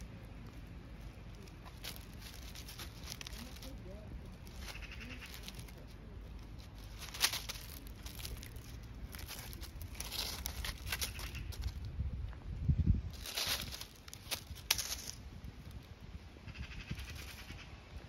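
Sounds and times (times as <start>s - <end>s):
dry leaves rustling and crackling: 0.0s - 12.2s, 12.9s - 18.0s.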